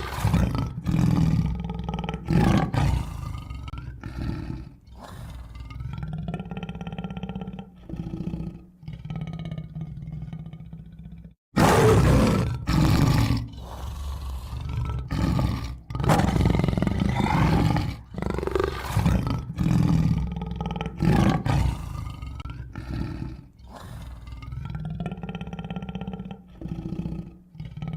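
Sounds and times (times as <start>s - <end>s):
tiger roaring: 0.0s - 27.9s.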